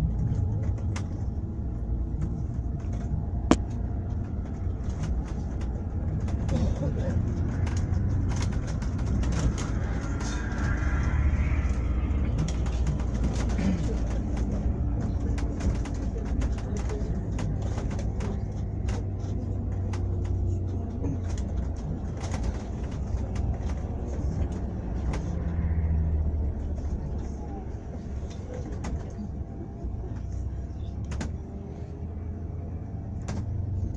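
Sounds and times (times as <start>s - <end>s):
vehicle low rumble: 0.0s - 33.9s.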